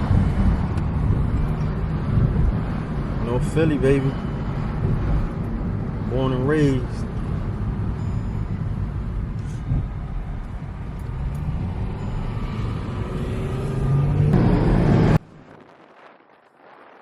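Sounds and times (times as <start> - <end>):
road rumble: 0.0 - 17.0.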